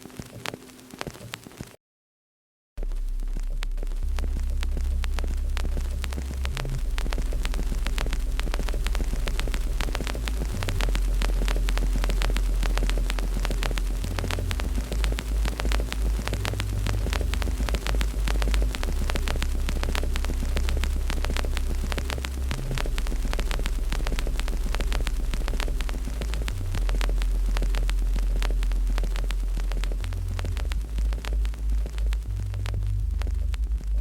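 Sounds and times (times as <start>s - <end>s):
wood fire crackling and popping: 0.0s - 1.8s, 2.8s - 34.0s
steady low rumble: 2.8s - 34.0s.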